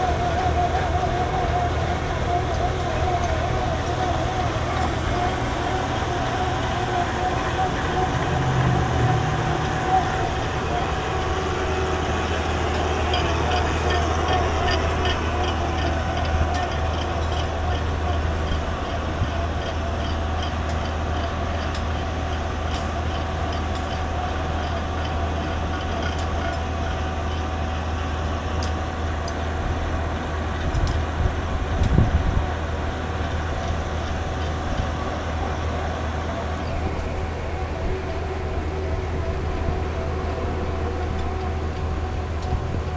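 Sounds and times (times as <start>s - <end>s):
drill rig engine drone: 0.0s - 42.9s.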